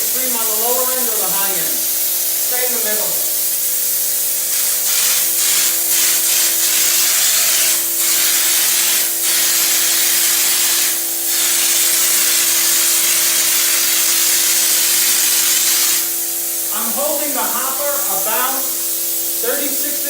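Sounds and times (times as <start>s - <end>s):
hiss of spray gun: 0.0s - 20.0s.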